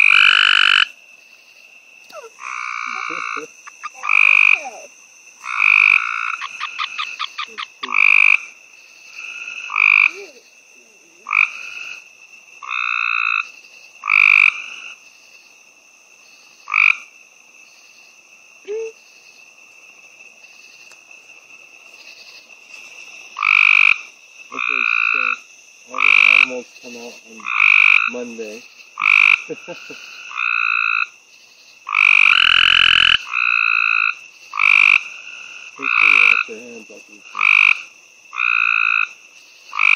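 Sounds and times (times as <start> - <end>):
treefrogs trilling: 0.0 - 39.9.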